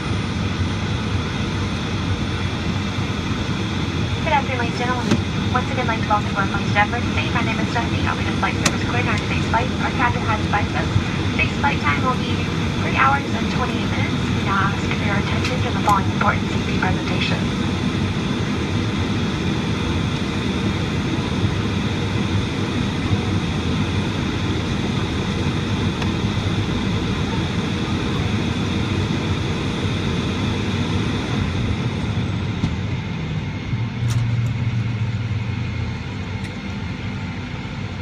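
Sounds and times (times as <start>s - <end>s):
aircraft cabin engine rumble: 0.0s - 38.0s
low hum: 0.0s - 38.0s.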